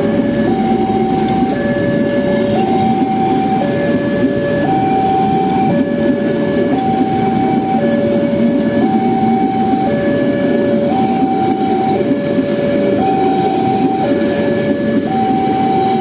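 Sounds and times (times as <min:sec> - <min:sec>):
level crossing alarm: 0:00.0 - 0:16.0
train rumbling past: 0:00.0 - 0:16.0.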